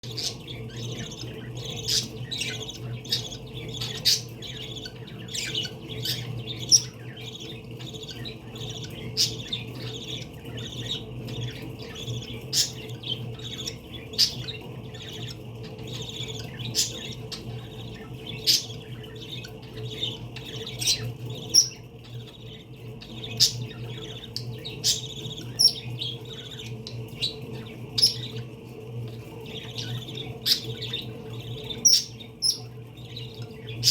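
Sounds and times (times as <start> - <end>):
parakeets chirping and squawking: 0.0 - 33.9
steady low hum: 0.0 - 33.9.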